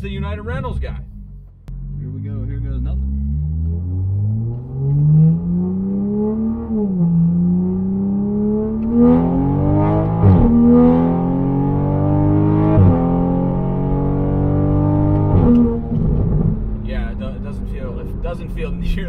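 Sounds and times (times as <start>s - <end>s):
car engine accelerating hard: 0.3s - 19.0s.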